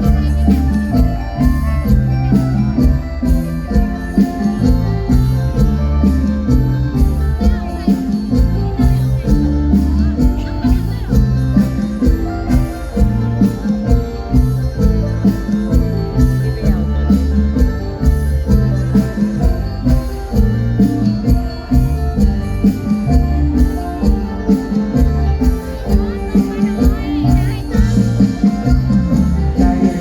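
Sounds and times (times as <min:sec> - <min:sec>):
band music with heavy bass: 0:00.0 - 0:30.0.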